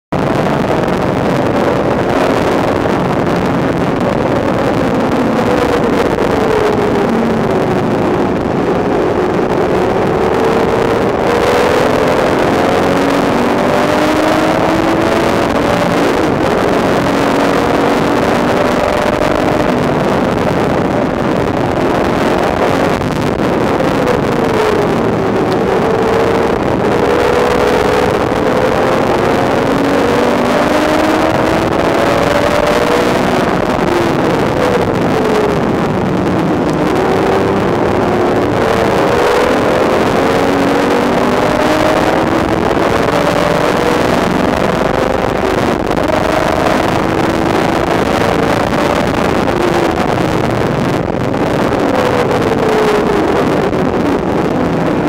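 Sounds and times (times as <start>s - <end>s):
road and wind noise: 0.0s - 55.0s
car engine revving: 0.1s - 55.0s.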